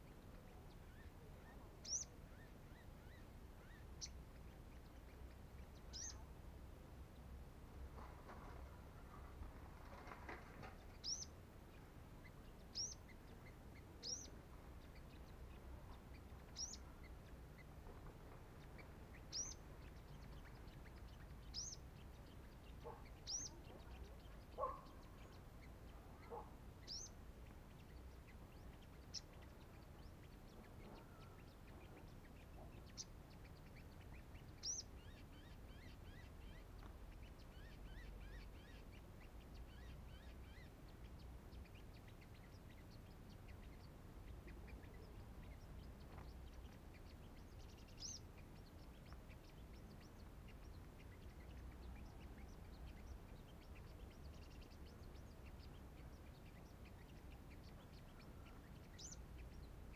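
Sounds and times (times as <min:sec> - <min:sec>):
faint lower bird chirps: 0:00.0 - 0:59.9.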